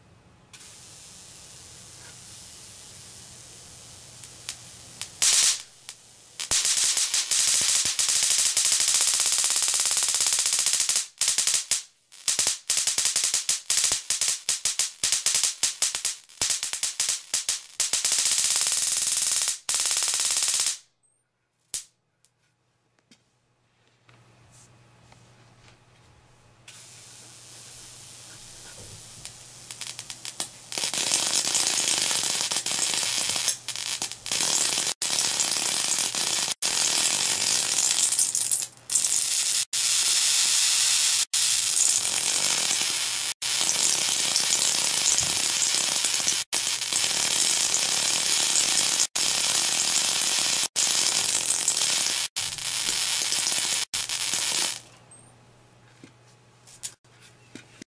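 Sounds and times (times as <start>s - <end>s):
electric arc hissing crackle: 0.5s - 20.8s, 26.7s - 54.9s.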